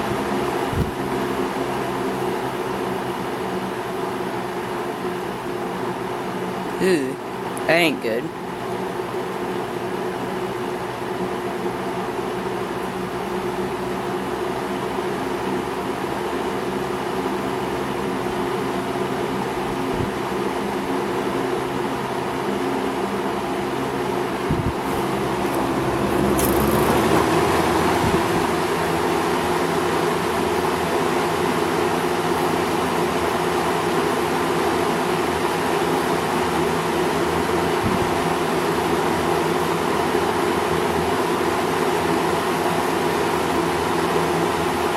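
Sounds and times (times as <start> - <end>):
box fan running: 0.0 - 44.9.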